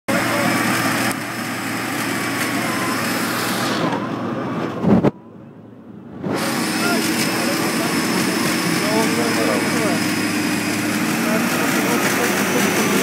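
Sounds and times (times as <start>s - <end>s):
off-road vehicle engine revving: 0.1s - 5.1s, 6.0s - 13.0s.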